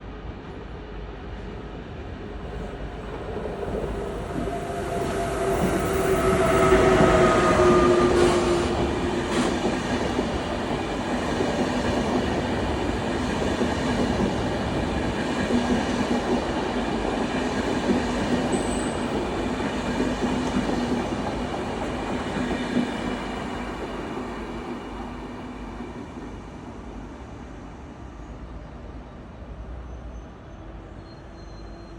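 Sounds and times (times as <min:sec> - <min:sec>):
electric train passing: 0:00.9 - 0:30.8.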